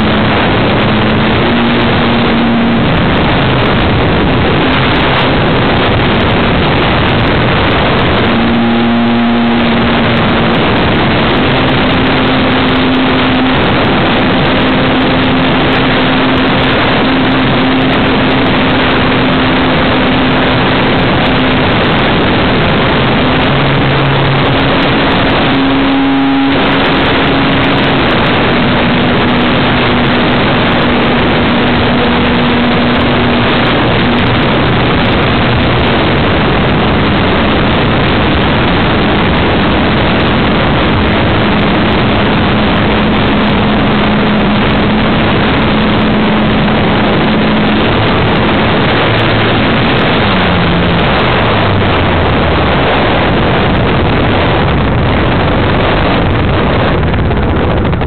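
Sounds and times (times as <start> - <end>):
wind rush over microphone: 0.0 - 58.0.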